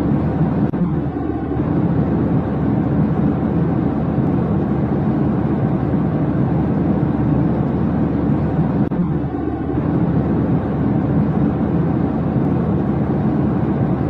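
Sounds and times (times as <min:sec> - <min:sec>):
loud low rumbling: 0:00.0 - 0:14.0.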